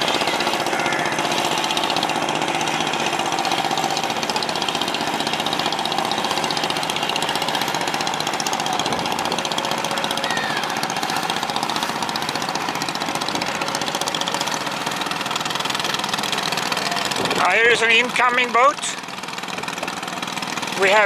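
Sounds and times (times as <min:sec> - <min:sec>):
boat engine knocking: 0:00.0 - 0:21.0.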